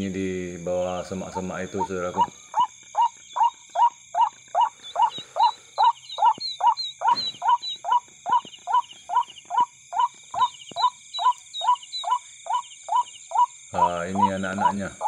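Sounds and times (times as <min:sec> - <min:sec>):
high-pitched insect trilling: 0:00.0 - 0:15.0
small high chirps: 0:00.7 - 0:15.0.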